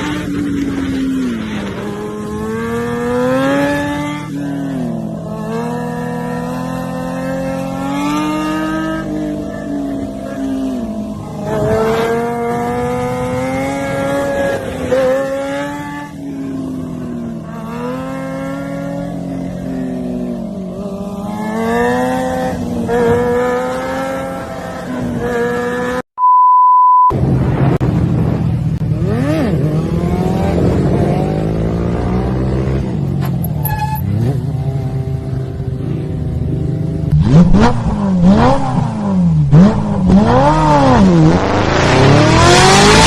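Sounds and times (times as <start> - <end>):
motorcycle engine accelerating: 0.0 - 26.0, 27.6 - 43.0.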